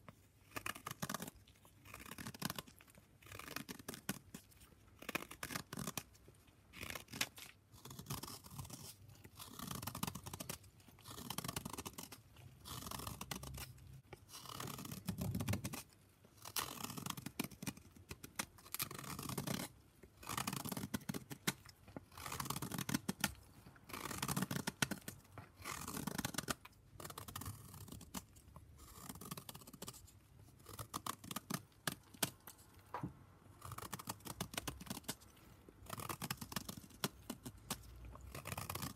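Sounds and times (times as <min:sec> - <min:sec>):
chalk being shaved and crumbled: 0:00.2 - 0:32.8, 0:33.6 - 0:38.9.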